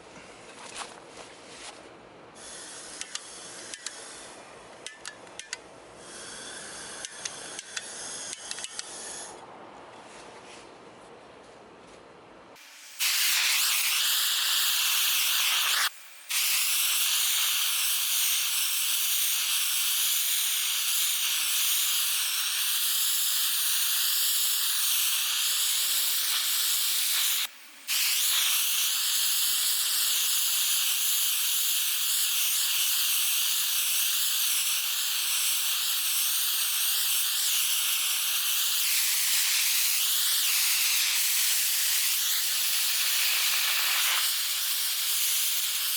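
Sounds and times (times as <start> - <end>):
gas torch flame hissing: 2.4 - 5.0, 6.0 - 9.4, 12.6 - 45.9.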